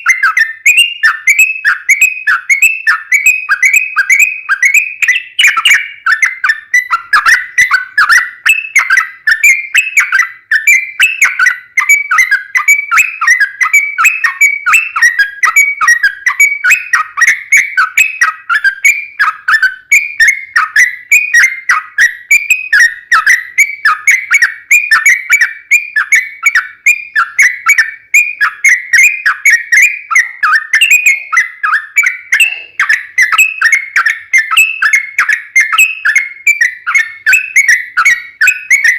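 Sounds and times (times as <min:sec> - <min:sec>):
bulbul singing: 0:00.0 - 0:38.9.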